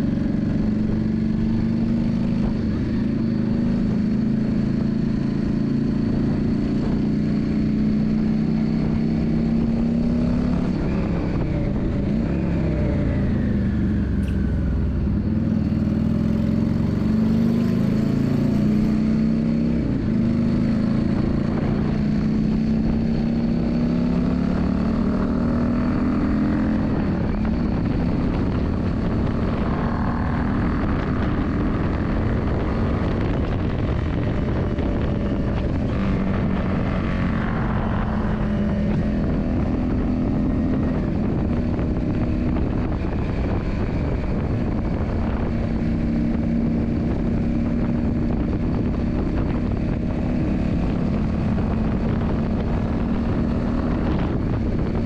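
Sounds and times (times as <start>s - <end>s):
motorcycle engine running under load: 0.0s - 55.0s
wind and road noise: 0.0s - 55.0s.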